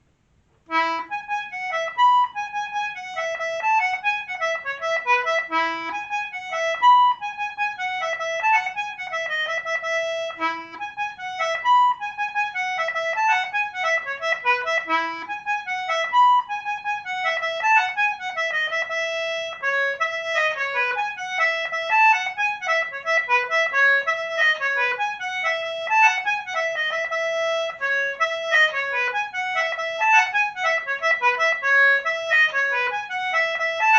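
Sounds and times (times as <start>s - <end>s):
concertina playing fast tune: 0.7s - 33.9s.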